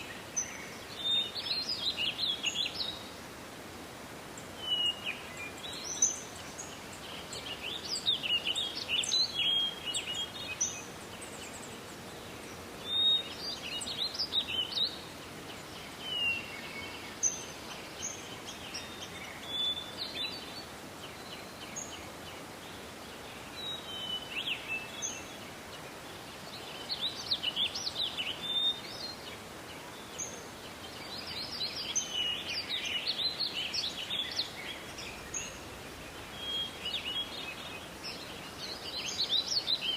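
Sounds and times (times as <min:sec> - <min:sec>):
forest ambience hiss: 0:00.0 - 0:39.9
songbirds singing: 0:00.0 - 0:39.9.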